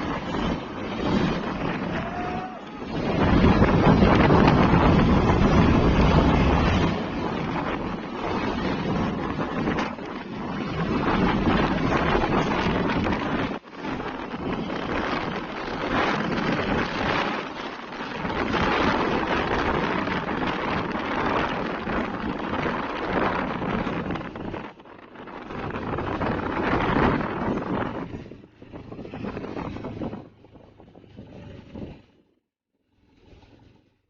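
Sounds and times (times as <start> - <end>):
wind buffeting microphone: 0.0 - 32.4.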